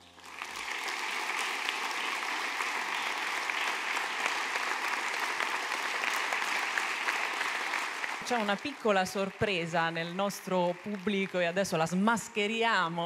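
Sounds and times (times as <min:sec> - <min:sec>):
audience applause: 0:00.0 - 0:11.9.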